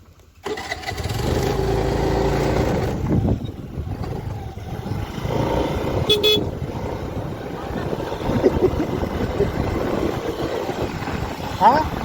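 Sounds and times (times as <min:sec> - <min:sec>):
motorcycle engine pulling away: 0:00.0 - 0:12.0.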